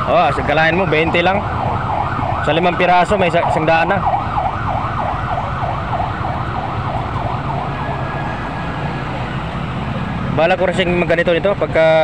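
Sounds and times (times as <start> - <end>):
siren yelping: 0.0 - 10.1.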